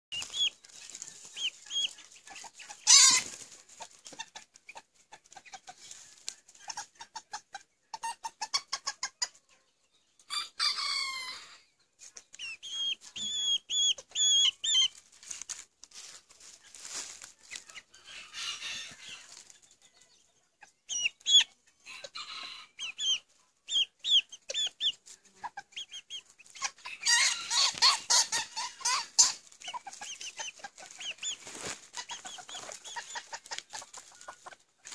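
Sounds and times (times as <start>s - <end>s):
chickens clucking and calling: 0.1s - 34.9s.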